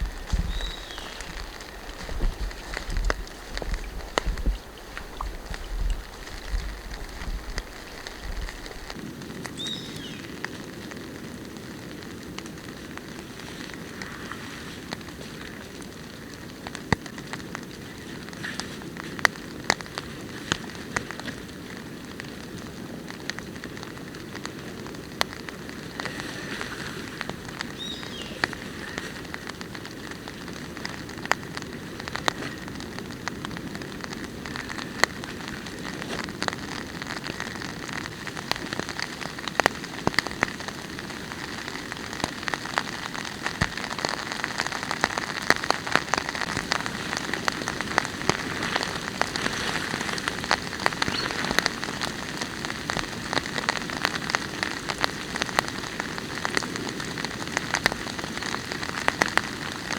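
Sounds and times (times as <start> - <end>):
raindrops striking a surface: 0.0 - 59.9
steady rain falling: 0.0 - 59.9.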